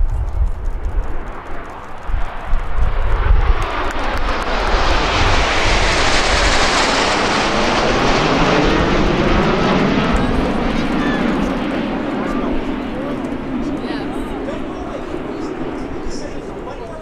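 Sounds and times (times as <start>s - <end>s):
jets flying overhead: 0.0s - 17.0s.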